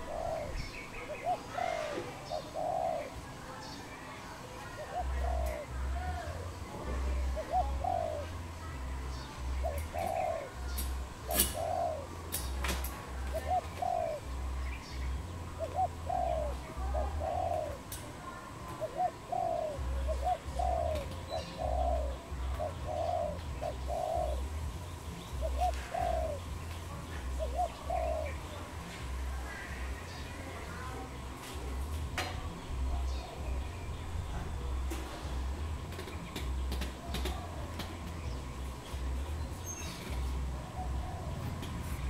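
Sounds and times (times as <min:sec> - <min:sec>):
dove cooing: 0:00.0 - 0:42.0.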